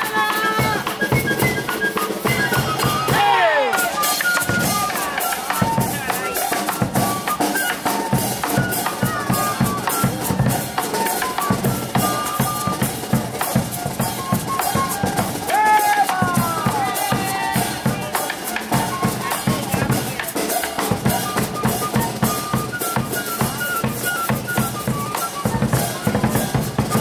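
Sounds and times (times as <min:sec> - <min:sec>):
drums and cymbals rhythm: 0:00.0 - 0:27.0
street band playing folk music: 0:00.0 - 0:27.0.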